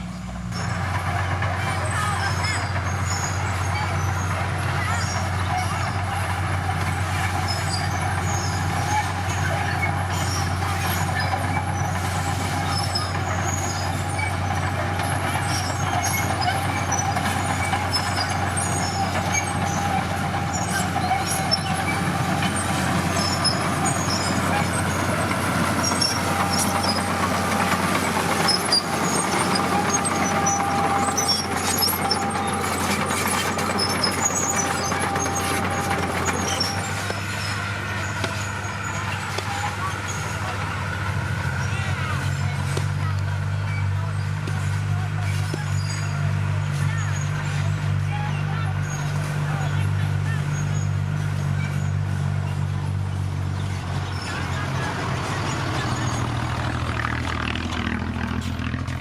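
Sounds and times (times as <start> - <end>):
diesel machinery engine drone: 0.0 - 59.0.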